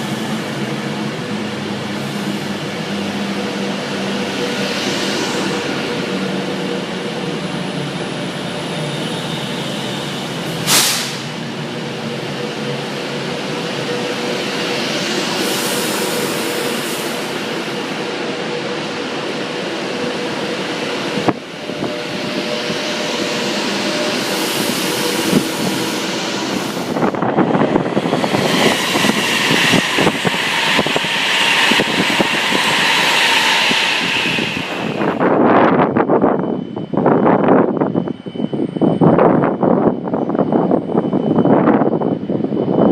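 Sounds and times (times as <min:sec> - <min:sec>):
train rail rumble: 0:00.0 - 0:42.9.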